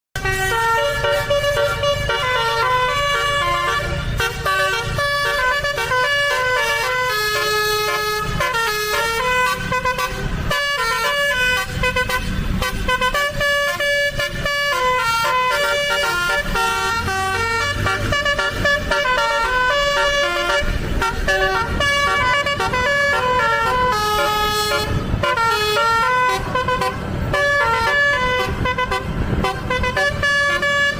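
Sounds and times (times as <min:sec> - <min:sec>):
air horns playing a tune: 0:00.2 - 0:30.9
bus engine running low: 0:00.2 - 0:30.9.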